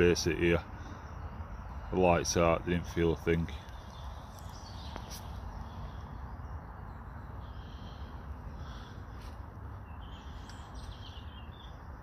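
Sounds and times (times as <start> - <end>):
faint distant bird calls: 0.0 - 12.0.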